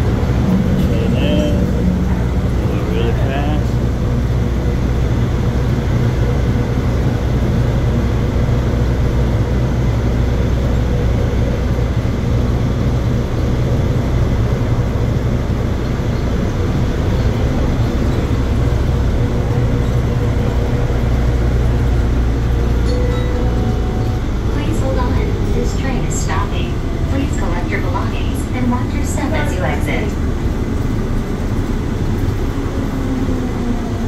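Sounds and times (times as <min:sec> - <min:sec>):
train car low rumble: 0:00.0 - 0:34.0.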